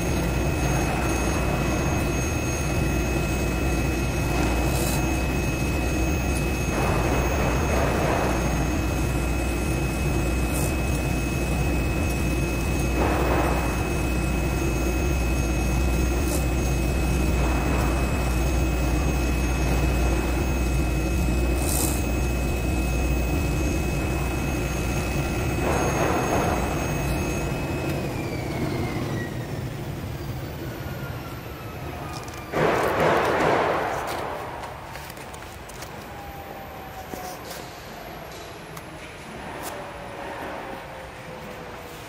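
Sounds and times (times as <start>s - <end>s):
foam cutting machine humming: 0.0s - 42.0s.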